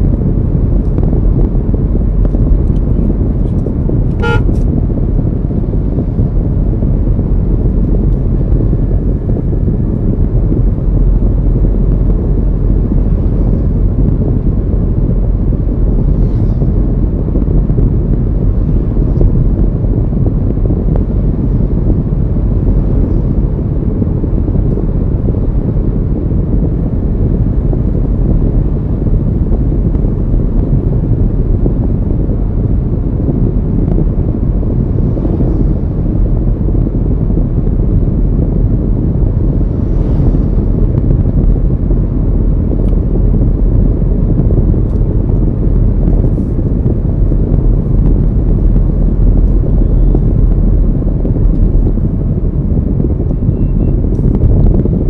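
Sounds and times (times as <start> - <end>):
moving car rumble: 0.0 - 55.0
wind buffeting microphone: 0.0 - 55.0.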